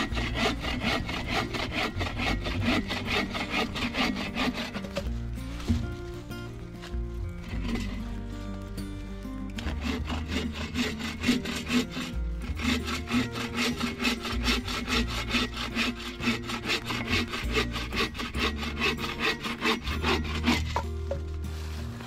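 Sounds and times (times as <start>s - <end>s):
saw cutting through wood: 0.0s - 6.1s, 6.8s - 8.3s, 9.6s - 20.9s.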